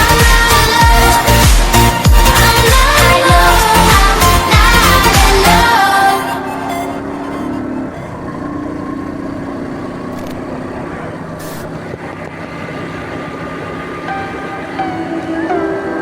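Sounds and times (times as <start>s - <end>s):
faint low engine hum: 0.0s - 16.0s
vehicle road noise rushing: 0.0s - 16.0s.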